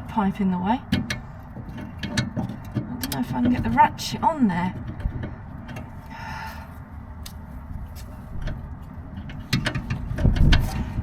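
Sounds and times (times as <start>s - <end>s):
wind rumbling on microphone: 0.8s - 11.0s.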